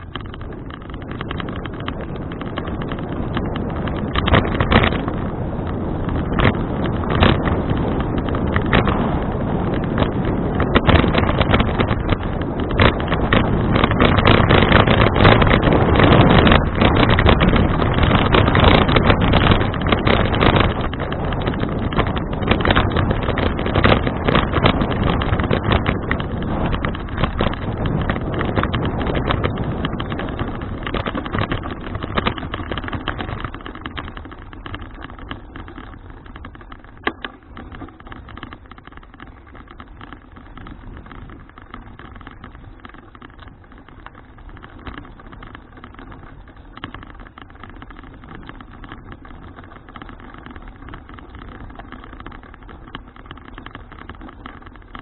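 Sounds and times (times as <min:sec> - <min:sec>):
bicycle rolling noise: 0:00.0 - 0:55.0
wind buffeting microphone: 0:00.0 - 0:55.0.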